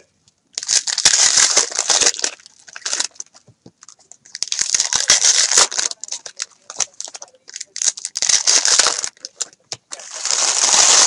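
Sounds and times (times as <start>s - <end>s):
foil wrapper crinkling and tearing: 0.6s - 11.0s.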